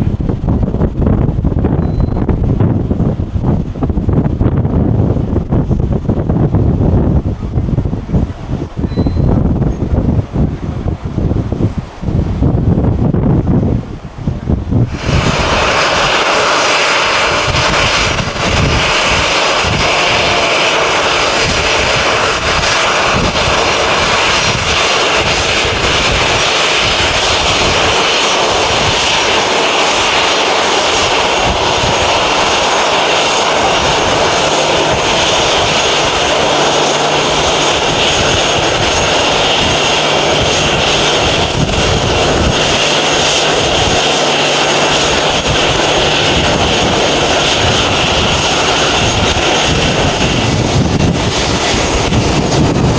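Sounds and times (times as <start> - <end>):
jet airliner engines running: 0.0 - 52.9.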